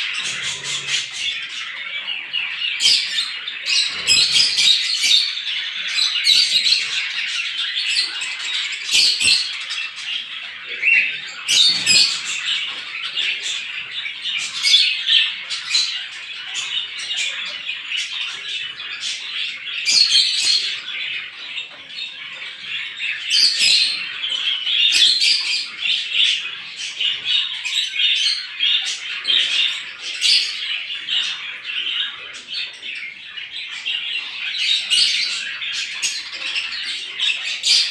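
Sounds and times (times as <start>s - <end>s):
loud sharp bird chirps: 0.0s - 37.9s
small birds chirping chorus: 0.0s - 37.9s.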